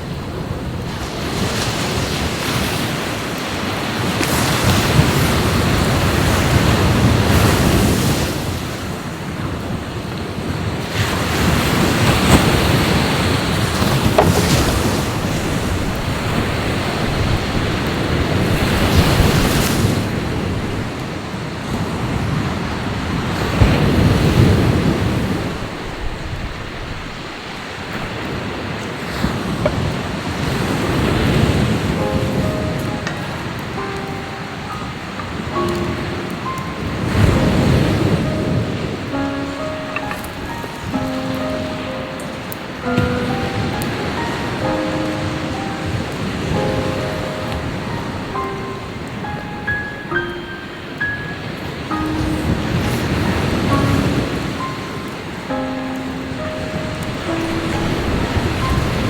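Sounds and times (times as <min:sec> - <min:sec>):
sea waves washing onto shore: 0:00.0 - 0:59.0.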